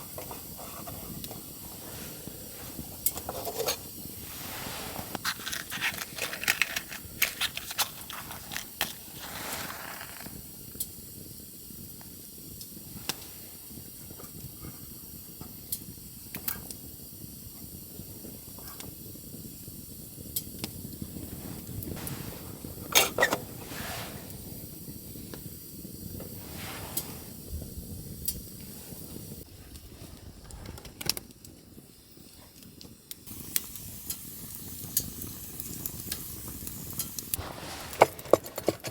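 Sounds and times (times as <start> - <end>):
campfire crackling and popping: 0.0 - 38.8.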